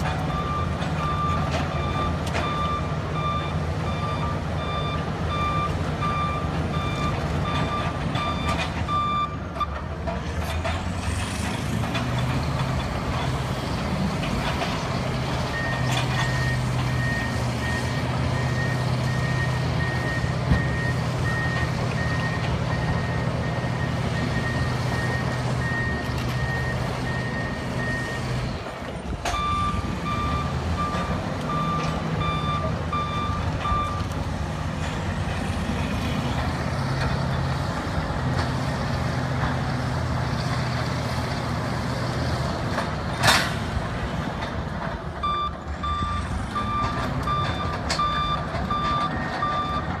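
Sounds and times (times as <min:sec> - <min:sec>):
diesel bulldozers running: 0:00.0 - 0:50.0.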